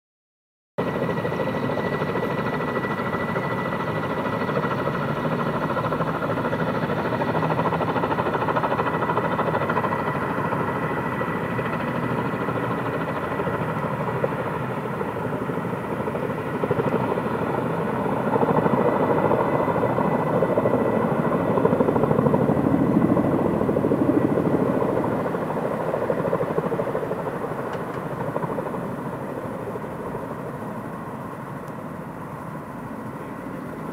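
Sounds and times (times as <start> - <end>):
helicopter rotor chop: 0.8 - 33.9
high turbine whine: 0.8 - 33.9.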